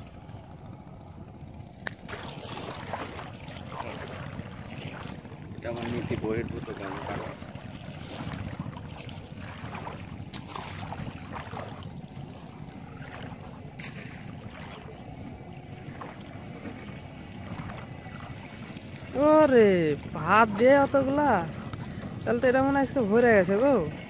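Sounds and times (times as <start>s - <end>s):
shallow water sloshing and splashing: 0.0s - 24.0s.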